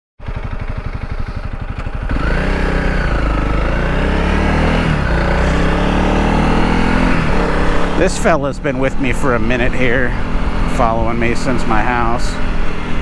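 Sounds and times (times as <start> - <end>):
motorcycle engine revving: 0.2 - 13.0.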